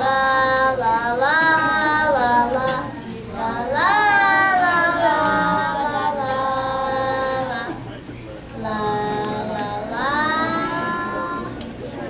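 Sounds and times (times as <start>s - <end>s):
children singing: 0.0s - 7.9s, 8.6s - 11.7s.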